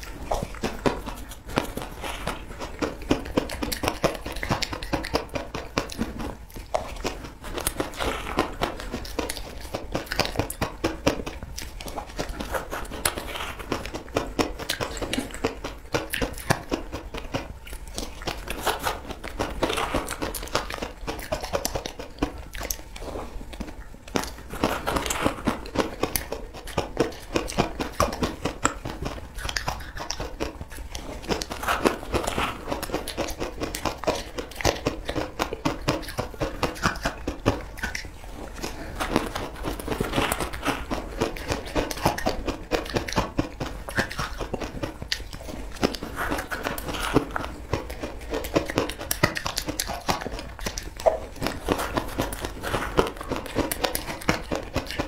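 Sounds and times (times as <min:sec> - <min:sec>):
crunching and chewing crumbly food: 0:00.0 - 0:55.0.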